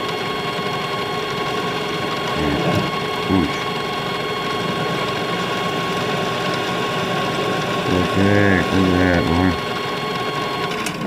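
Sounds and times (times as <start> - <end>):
metal lathe whirring: 0.0 - 11.0
tool cutting spinning workpiece: 0.0 - 11.0.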